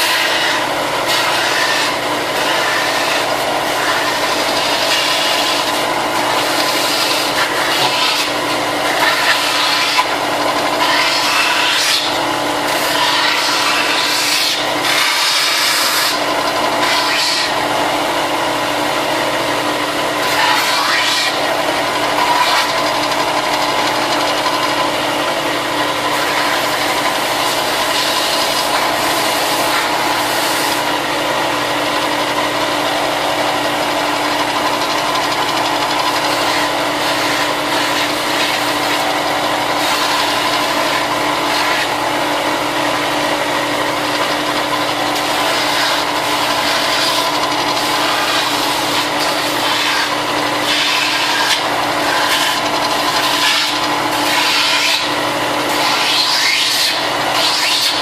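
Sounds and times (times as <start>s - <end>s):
steady motor hum: 0.0s - 58.0s.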